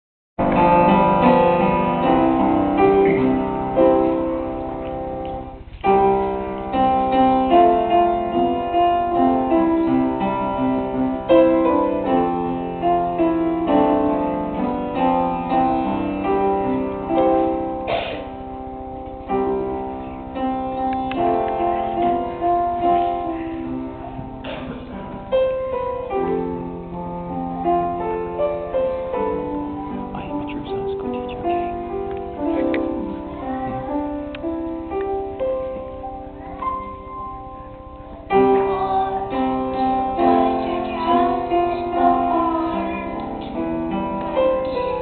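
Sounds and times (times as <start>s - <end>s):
piano notes ringing: 0.4s - 45.0s.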